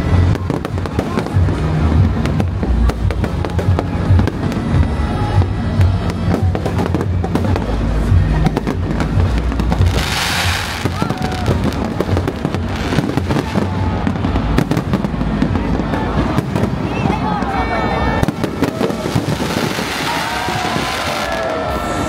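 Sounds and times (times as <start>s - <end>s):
fireworks bangs and crackles: 0.0s - 22.0s
loud crackling hiss: 0.0s - 22.0s
low rumble: 0.0s - 22.0s.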